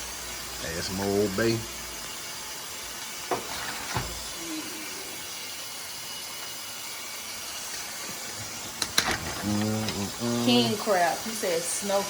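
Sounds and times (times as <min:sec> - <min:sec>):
pot of water boiling: 0:00.0 - 0:12.0.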